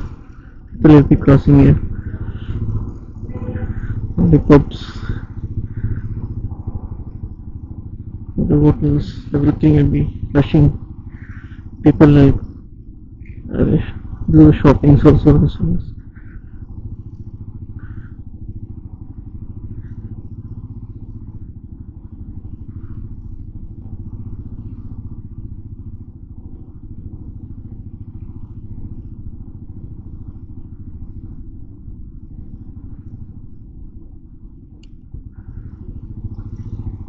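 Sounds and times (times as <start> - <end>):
faint street noise: 0.0 - 37.0
motorcycle engine running: 0.0 - 37.0.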